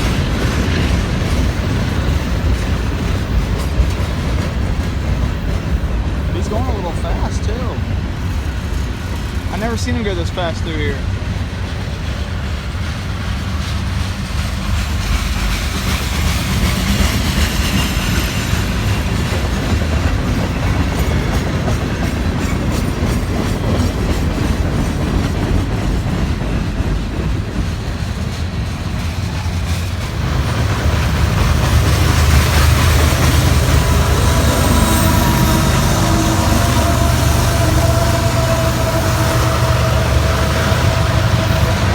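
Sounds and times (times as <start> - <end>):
freight train wheels clacking: 0.0 - 41.9.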